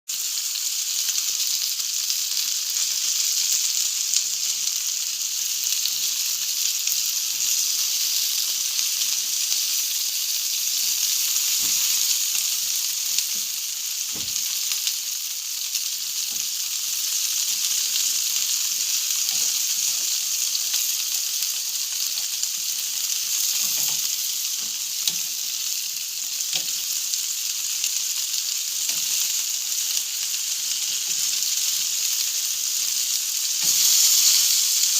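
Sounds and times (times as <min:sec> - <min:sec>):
food sizzling on a grill: 0:00.1 - 0:34.9.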